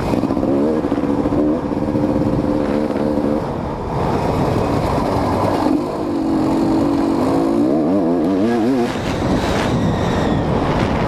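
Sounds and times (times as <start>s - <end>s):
dirt bike engine revving: 0.0s - 3.7s, 4.8s - 11.0s.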